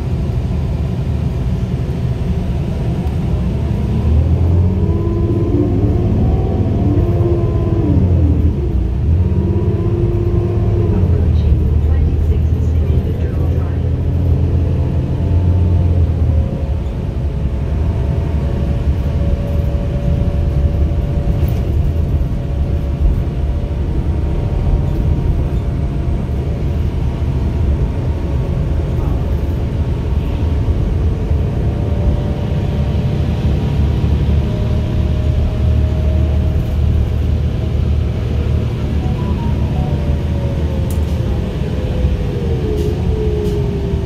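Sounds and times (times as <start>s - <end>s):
bus engine and road rumble: 0.0s - 44.0s.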